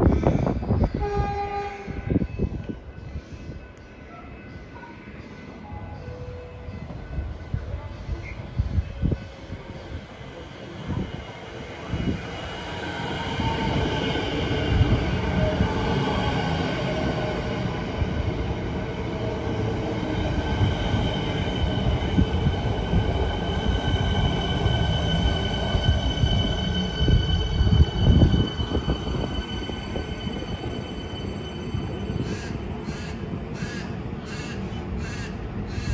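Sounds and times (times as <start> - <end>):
high hum of train equipment: 0.0 - 35.9
rumble of train wheels: 0.0 - 35.9.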